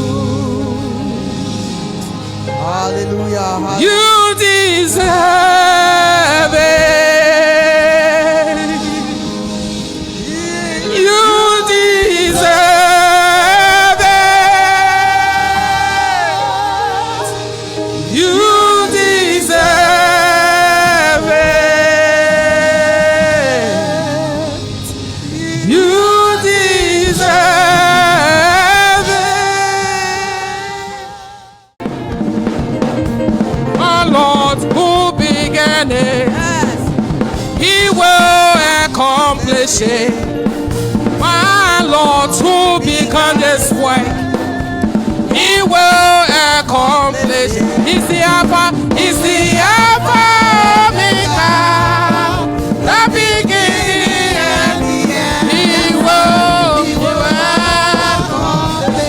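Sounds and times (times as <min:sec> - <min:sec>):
drum kit: 0:00.0 - 0:59.0
gospel singing with a band: 0:00.0 - 0:59.0.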